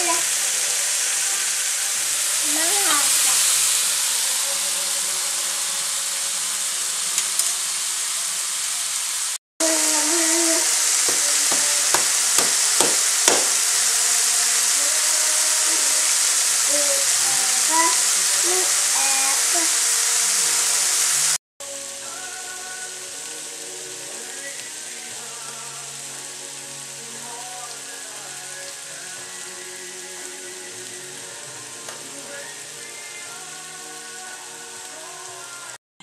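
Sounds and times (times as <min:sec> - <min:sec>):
chicken sizzling in a pan: 0:00.0 - 0:35.8.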